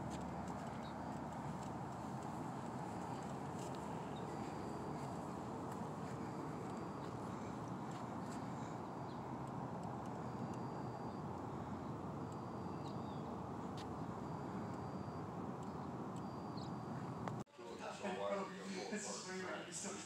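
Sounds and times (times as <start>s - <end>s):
outdoor background noise: 0.0s - 20.0s
faint high chirps: 0.2s - 17.1s.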